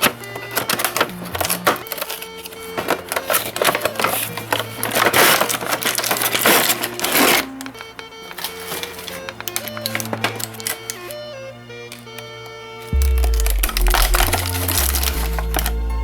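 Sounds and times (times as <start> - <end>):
packaging rustling and crinkling: 0.0 - 15.9
background music with held notes: 0.0 - 16.0.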